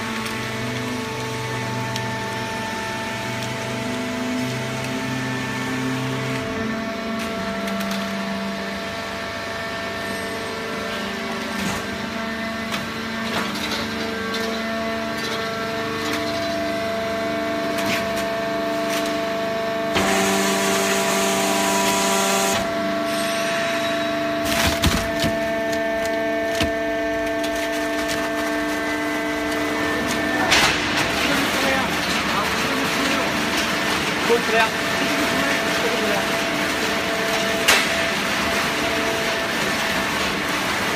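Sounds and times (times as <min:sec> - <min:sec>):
baler motor and pump hum: 0:00.0 - 0:40.9.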